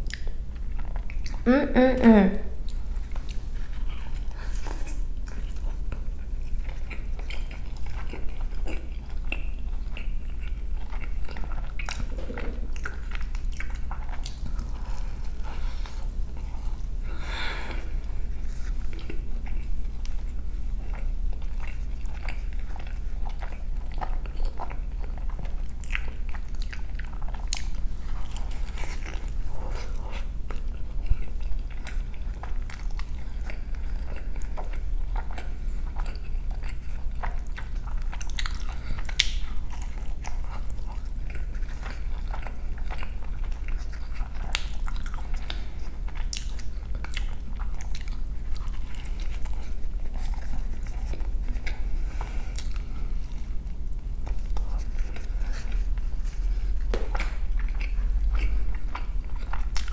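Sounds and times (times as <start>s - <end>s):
steady low hum: 0.0s - 59.9s
mouth chewing and biting: 2.6s - 59.9s.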